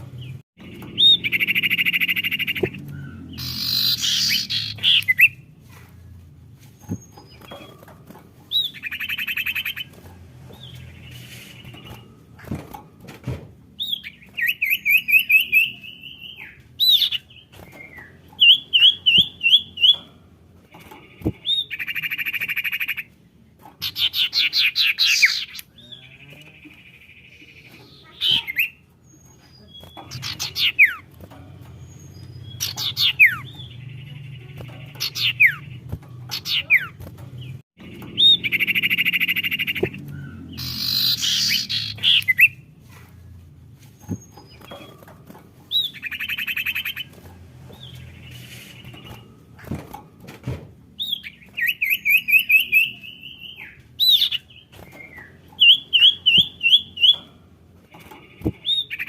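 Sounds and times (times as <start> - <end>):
bird calling and singing: 0.0 - 12.8, 13.8 - 50.2, 50.9 - 59.0.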